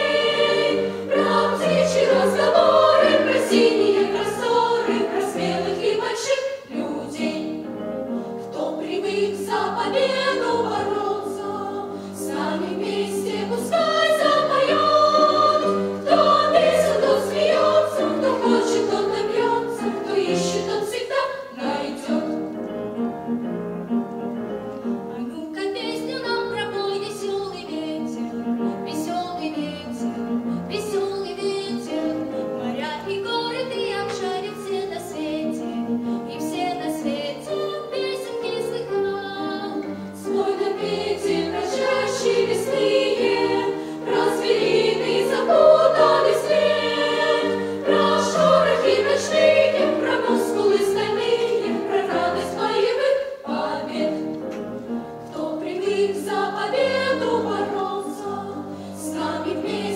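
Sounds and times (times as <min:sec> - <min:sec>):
musical accompaniment: 0:00.0 - 0:59.9.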